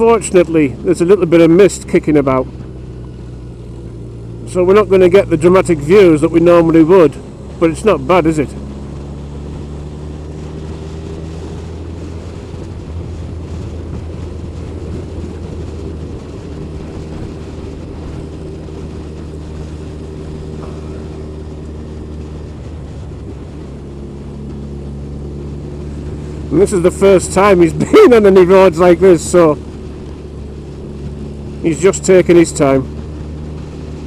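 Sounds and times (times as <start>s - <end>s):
road and wind noise: 0.0s - 34.0s
vehicle engine cruising: 0.0s - 34.0s.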